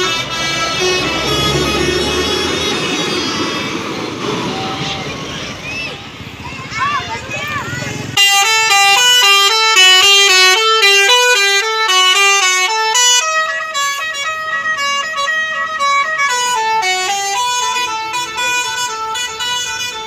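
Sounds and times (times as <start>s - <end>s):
multi-tone bus horn melody: 0.0s - 5.0s, 8.2s - 20.0s.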